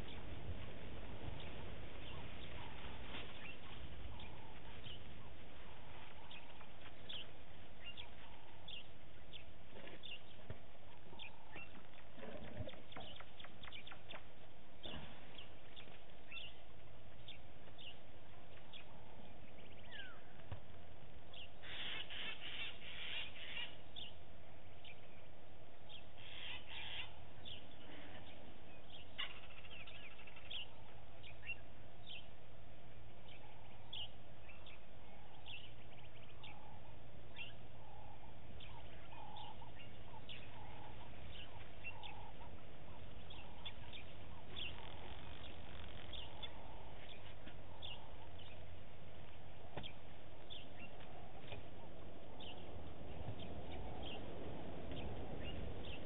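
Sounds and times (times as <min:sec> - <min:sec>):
birds chirping: 0:00.0 - 0:56.0
low bird call: 0:00.0 - 0:56.0
steady low hum: 0:00.0 - 0:56.0.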